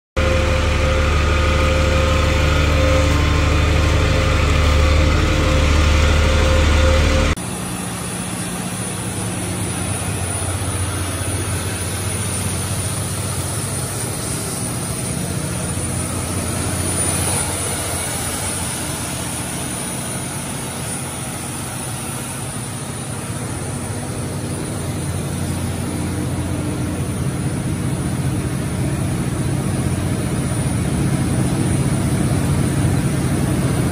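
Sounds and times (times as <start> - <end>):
faint high whine: 0.2 - 32.4
generator engine running: 0.2 - 33.9.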